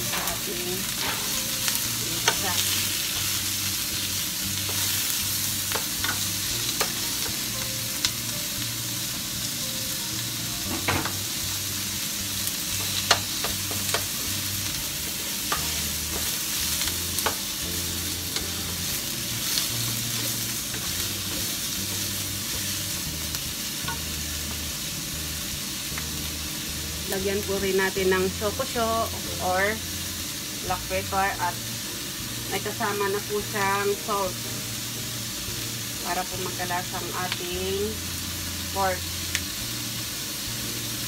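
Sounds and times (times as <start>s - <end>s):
food sizzling in oil: 0.0s - 41.0s.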